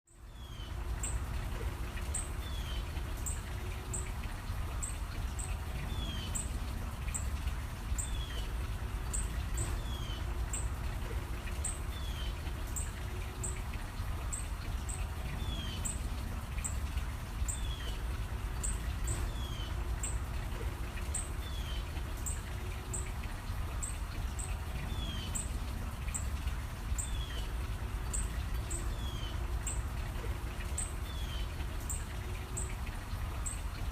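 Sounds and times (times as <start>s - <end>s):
songbirds chirping: 0.1s - 33.9s.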